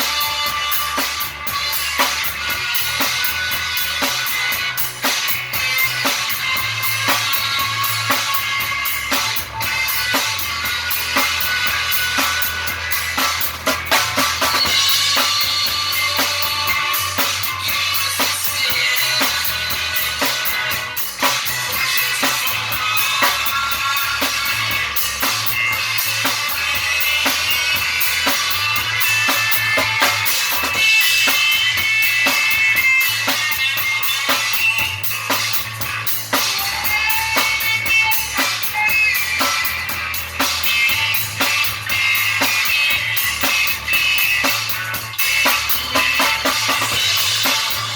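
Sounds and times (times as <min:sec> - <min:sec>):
drum kit beat: 0:00.0 - 0:47.9.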